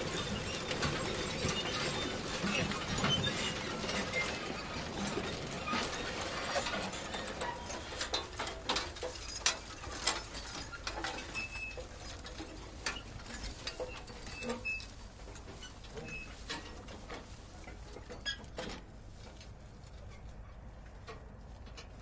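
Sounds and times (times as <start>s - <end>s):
manure spreader noisy wash: 0.0s - 19.4s
sharp clicks and rattles: 0.1s - 22.0s.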